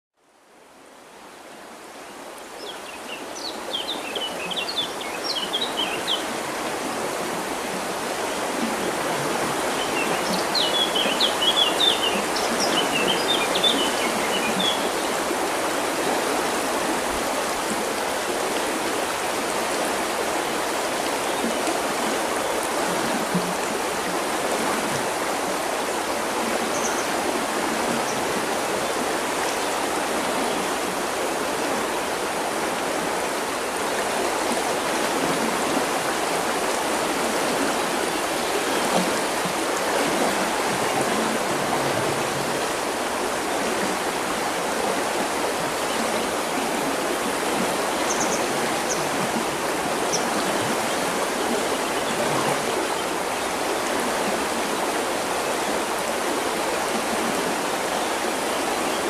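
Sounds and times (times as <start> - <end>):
river water flowing: 0.2 - 59.0.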